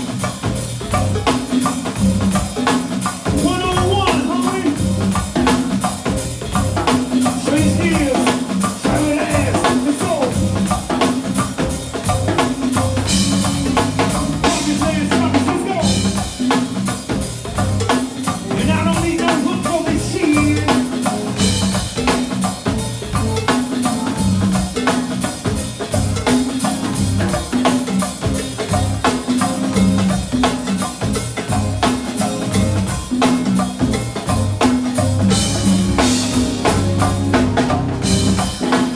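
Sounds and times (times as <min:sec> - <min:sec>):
bass line: 0:00.0 - 0:01.3, 0:03.3 - 0:24.8, 0:25.5 - 0:26.3, 0:28.3 - 0:30.4, 0:31.0 - 0:33.1, 0:33.8 - 0:38.6
drum kit beat: 0:00.0 - 0:38.9
percussion: 0:00.0 - 0:38.9.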